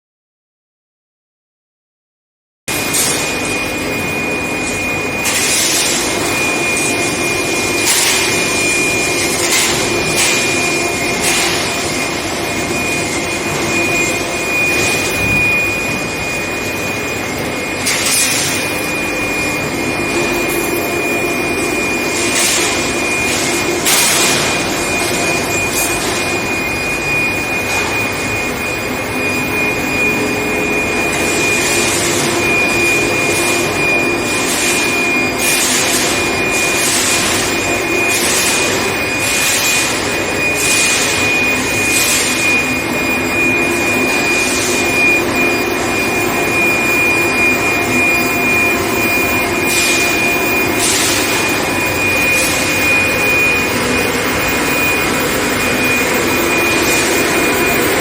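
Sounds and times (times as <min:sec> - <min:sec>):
high-pitched furnace whine: 0:02.7 - 0:58.0.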